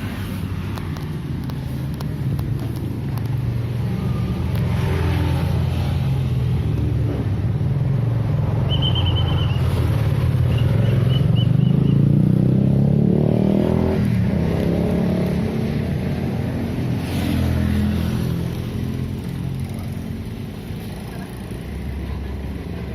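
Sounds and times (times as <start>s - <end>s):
vehicle engines passing: 0.0s - 22.9s.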